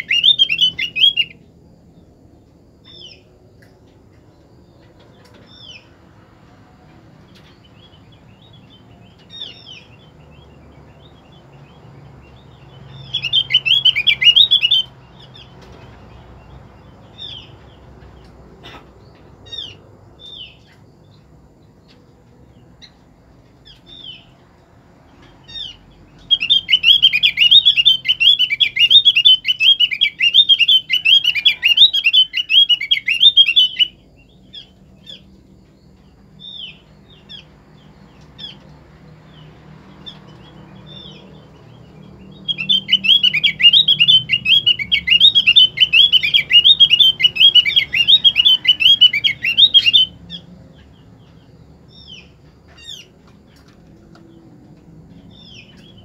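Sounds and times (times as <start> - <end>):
high bird chirps: 0.0 - 1.5, 7.2 - 21.2, 23.6 - 24.4, 25.2 - 54.4.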